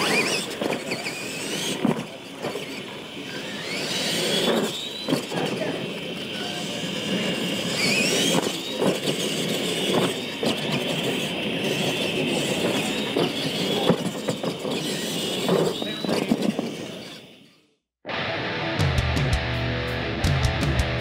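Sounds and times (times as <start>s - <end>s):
toy truck motor whining: 0.0s - 17.8s.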